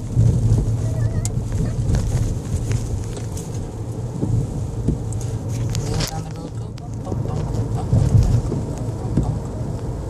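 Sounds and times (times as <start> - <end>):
car driving in rain rumble: 0.0 - 10.0.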